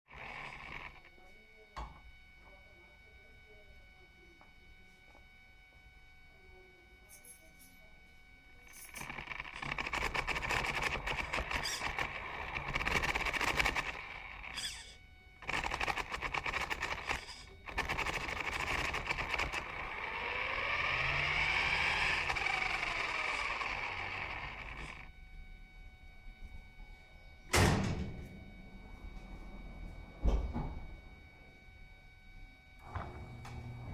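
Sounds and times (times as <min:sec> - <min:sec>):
electric motor whine: 0:00.0 - 0:07.3, 0:08.3 - 0:33.9.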